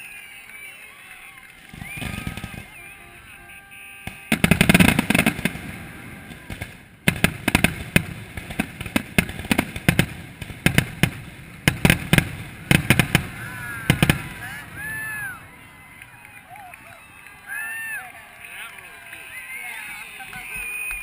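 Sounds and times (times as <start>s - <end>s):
fireworks bangs and crackling: 0.1s - 21.0s.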